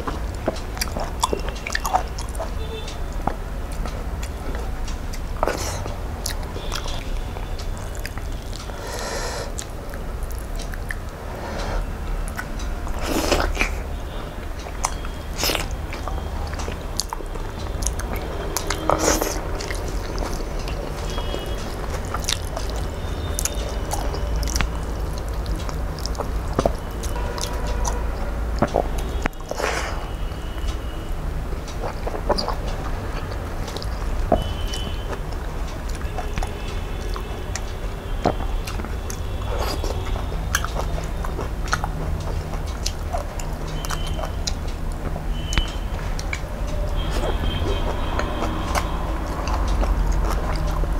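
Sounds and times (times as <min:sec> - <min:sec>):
man chewing food: 0:00.0 - 0:50.9
mouth clicks and smacks: 0:00.0 - 0:50.9.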